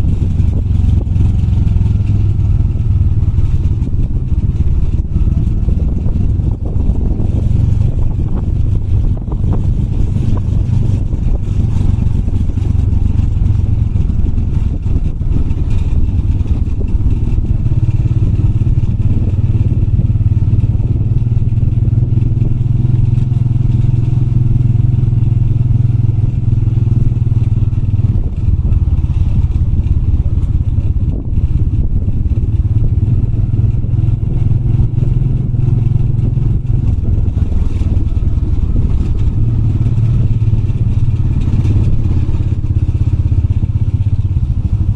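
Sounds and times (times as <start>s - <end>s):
motorbike clatter: 0.0s - 44.9s
motorbike engine running: 0.0s - 44.9s.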